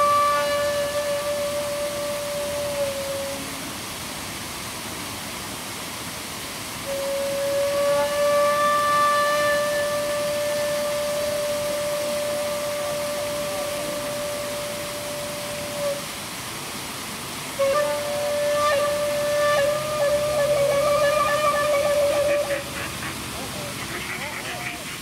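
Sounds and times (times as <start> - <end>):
wind instrument long notes: 0.0 - 3.7, 6.8 - 16.2, 17.5 - 25.0
stream and waterfall rushing: 0.0 - 25.0.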